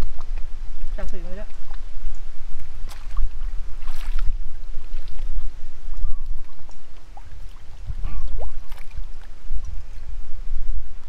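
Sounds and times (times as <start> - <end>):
water splashing and sloshing: 0.0 - 10.8.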